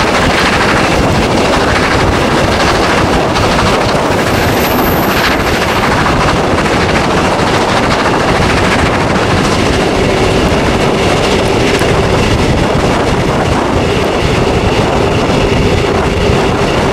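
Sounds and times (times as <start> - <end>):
rail clatter: 0.0 - 16.9
rush of wind and train wheels: 0.0 - 16.9.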